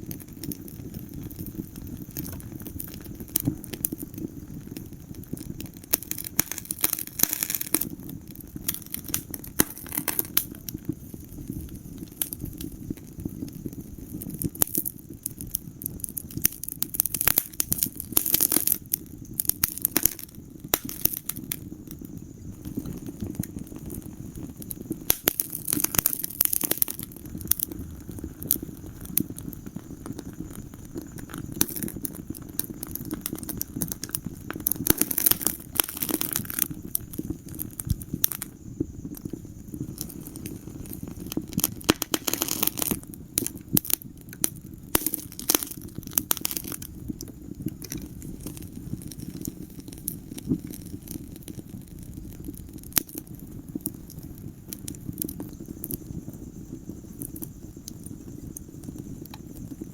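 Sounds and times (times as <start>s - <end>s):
crackles and sharp pops: 0.0s - 59.9s
wood fire burning: 0.0s - 59.9s.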